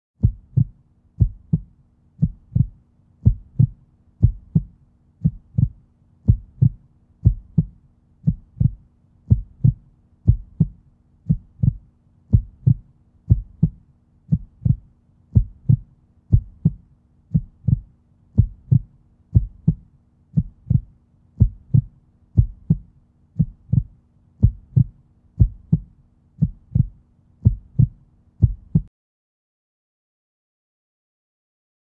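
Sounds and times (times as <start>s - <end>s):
faint steady hum: 0.2s - 28.9s
heartbeat thumps: 0.2s - 28.9s.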